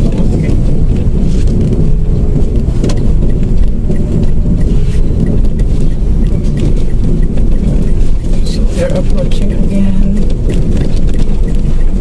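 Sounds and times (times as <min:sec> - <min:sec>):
car engine and road rumble: 0:00.0 - 0:12.0
light even ticking: 0:00.0 - 0:12.0.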